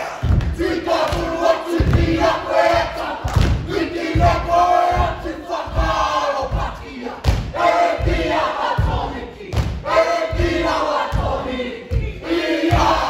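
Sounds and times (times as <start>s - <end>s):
group shouting a chant: 0.0s - 13.0s.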